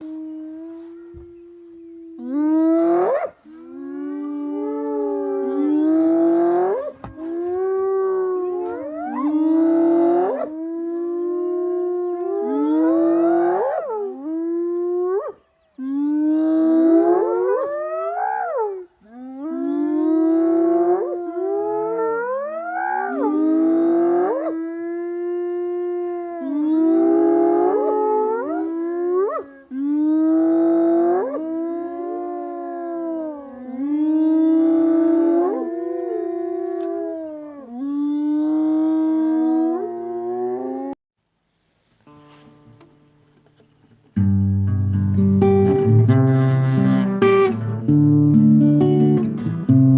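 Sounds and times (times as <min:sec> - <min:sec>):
animals howling in chorus: 0:00.0 - 0:41.0.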